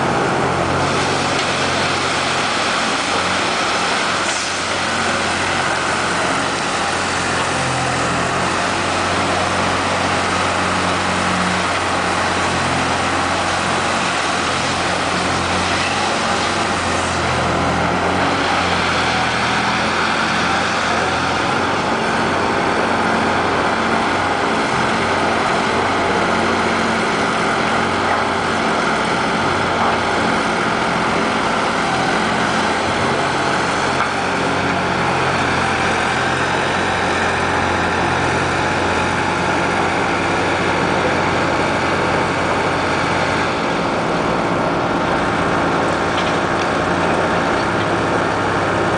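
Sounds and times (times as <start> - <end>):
loader engine running: 0.0 - 48.9.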